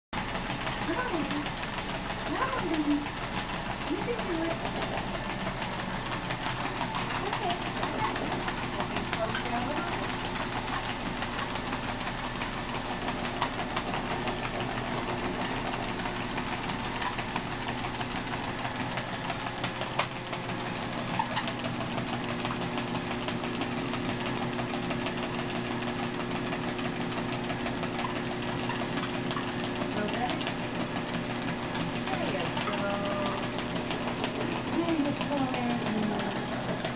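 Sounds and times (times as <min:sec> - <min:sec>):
dog paws tapping on belt: 0:00.2 - 0:36.9
treadmill motor humming: 0:00.2 - 0:36.9.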